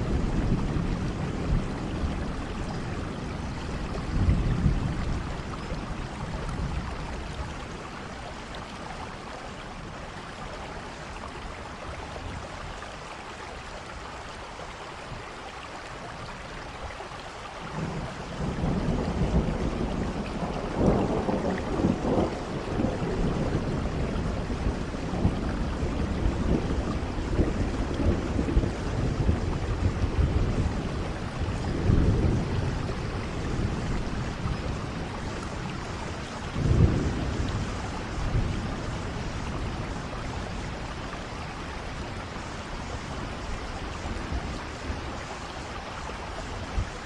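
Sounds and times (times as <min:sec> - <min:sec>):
low rolling thunder: 0:00.0 - 0:10.4, 0:17.6 - 0:47.0
rain falling: 0:00.0 - 0:47.0.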